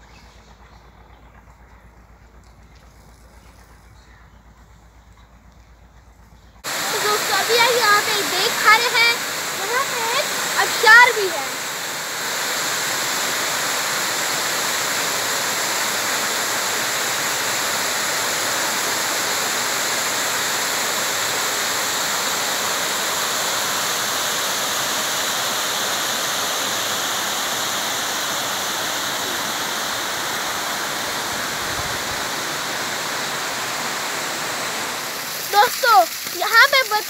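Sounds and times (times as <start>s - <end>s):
waterfall pouring into pool: 6.6s - 37.0s.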